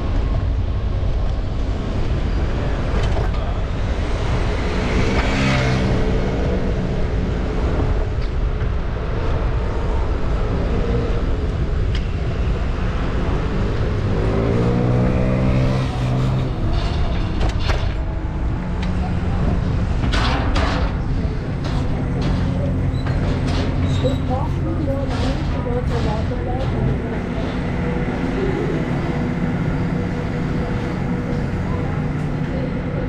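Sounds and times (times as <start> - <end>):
low traffic rumble: 0.0 - 33.0
vehicles passing by: 0.0 - 33.0.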